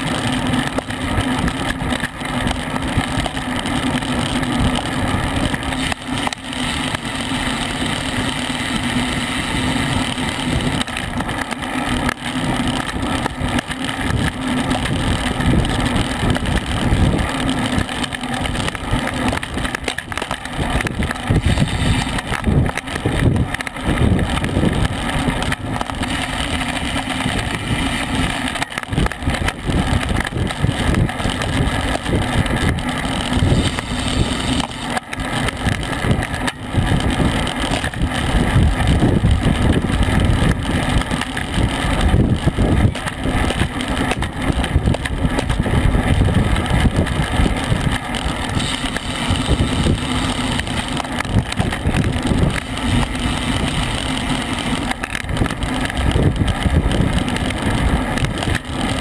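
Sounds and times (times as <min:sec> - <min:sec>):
gusty rumbles: 0:00.0 - 0:59.0
steady low hum: 0:00.0 - 0:59.0
wind buffeting microphone: 0:00.0 - 0:59.0.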